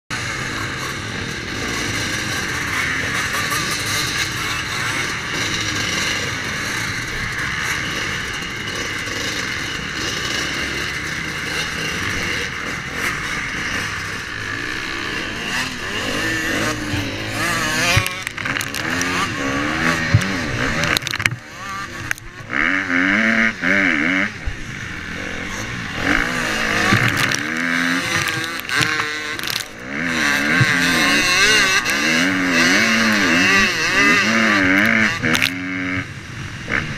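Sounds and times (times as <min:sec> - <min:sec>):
dirt bike engine revving: 0:00.1 - 0:36.9
motocross bike engines running: 0:00.1 - 0:36.9.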